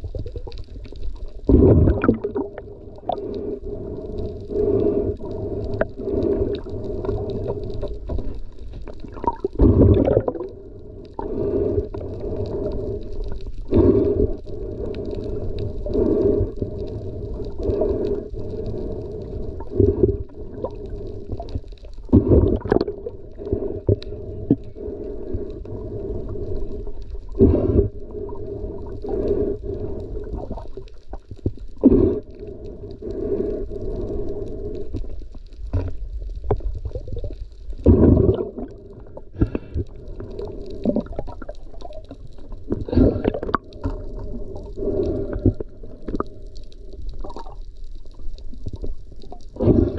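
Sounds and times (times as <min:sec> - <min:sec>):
underwater rumble and gurgle: 0:00.0 - 0:49.9.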